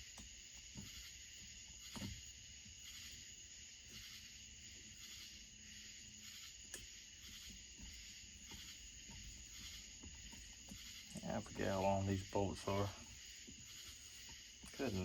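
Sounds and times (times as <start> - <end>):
faint high-pitched hiss: 0.0 - 15.0.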